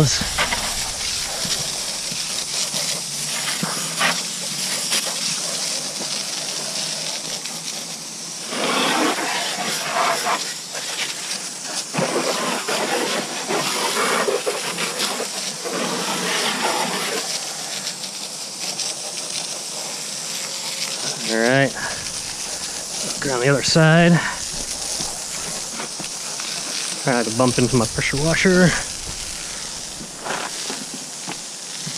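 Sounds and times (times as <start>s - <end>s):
pressure washer spraying: 0.0s - 31.9s.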